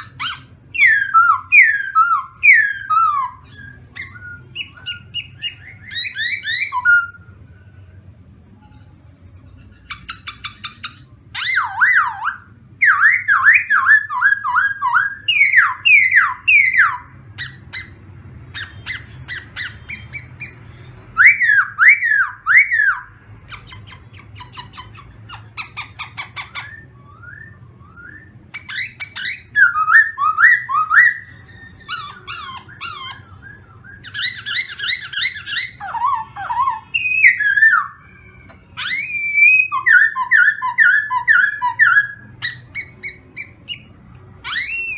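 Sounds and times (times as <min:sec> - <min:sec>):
bird singing whistled phrases: 0:00.0 - 0:07.4, 0:09.6 - 0:18.0, 0:18.6 - 0:44.9.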